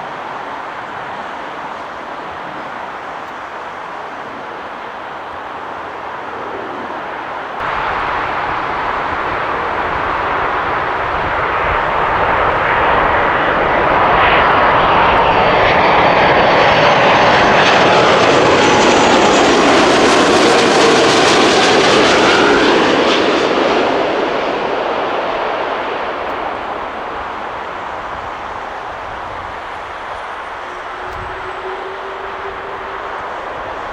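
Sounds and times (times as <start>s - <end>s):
jet airliner engines passing: 0.0s - 33.9s.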